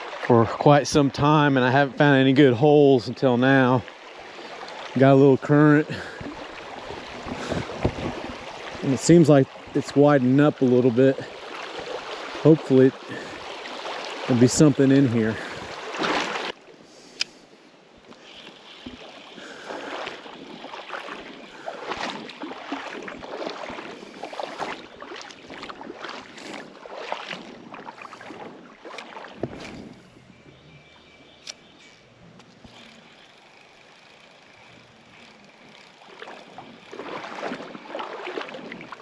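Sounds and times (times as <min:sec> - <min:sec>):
water flowing: 0:00.0 - 0:16.7, 0:18.0 - 0:30.2, 0:32.6 - 0:39.0
legs wading through water: 0:00.0 - 0:39.0.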